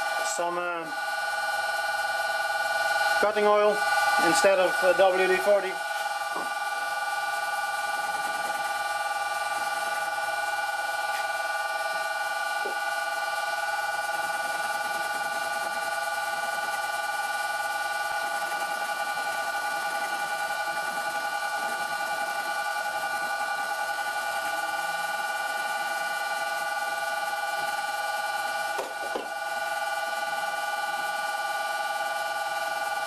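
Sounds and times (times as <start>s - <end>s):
metal lathe whine: 0.0s - 33.0s.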